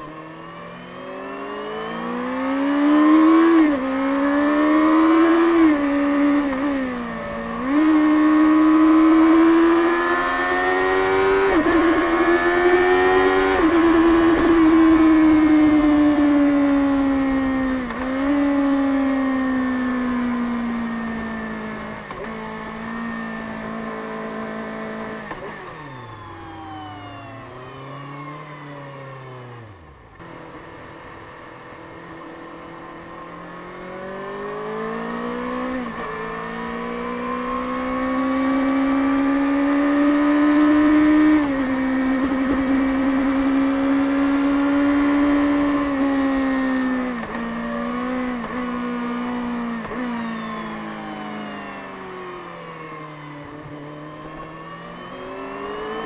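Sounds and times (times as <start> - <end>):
motorcycle engine revving: 0.0 - 25.8, 27.5 - 56.0.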